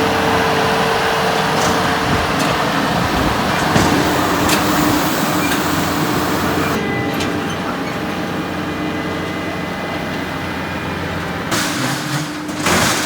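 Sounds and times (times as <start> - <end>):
diesel engine running under work: 0.0 - 13.0.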